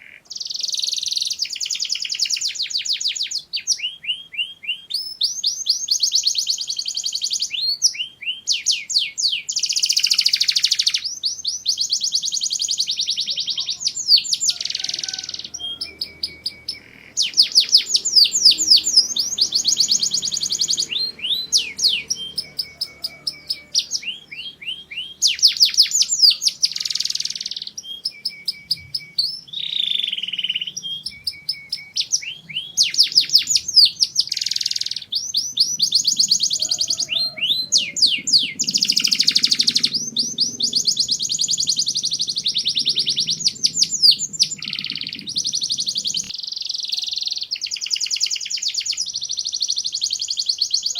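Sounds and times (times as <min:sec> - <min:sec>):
canary singing rapid trills: 0:00.0 - 0:50.9.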